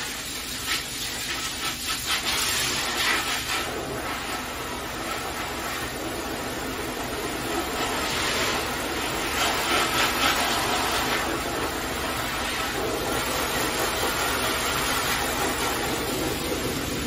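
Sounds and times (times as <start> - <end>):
pet dryer blowing air: 0.0 - 17.0.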